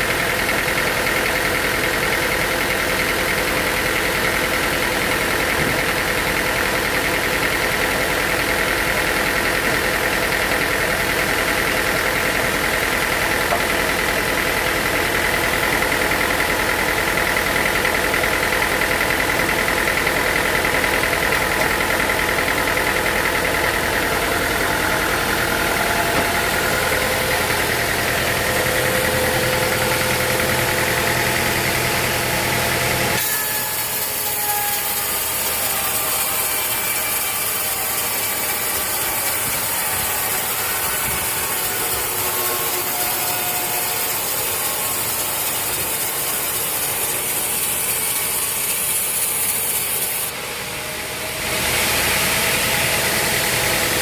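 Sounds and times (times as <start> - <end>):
high mechanical whine: 0.0 - 54.0
sawmill machinery droning: 0.0 - 54.0.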